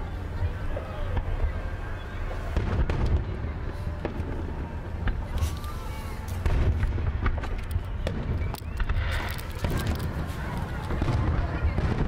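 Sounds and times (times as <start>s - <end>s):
steady low rumble: 0.0s - 12.0s
fireworks popping and banging: 0.6s - 12.0s.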